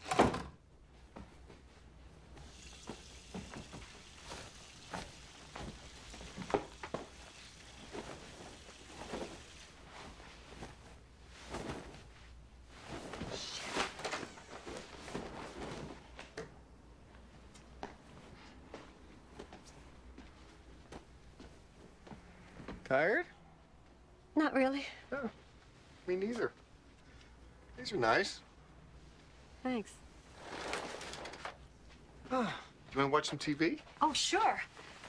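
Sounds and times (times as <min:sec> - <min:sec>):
clothes and bedding rustling: 0:00.0 - 0:35.0
faint steady hiss: 0:00.7 - 0:35.0.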